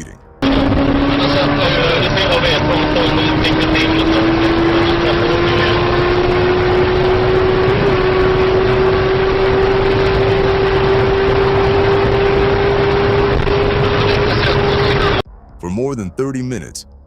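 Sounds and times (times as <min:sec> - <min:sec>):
vehicle engine rushing: 0:00.4 - 0:15.2.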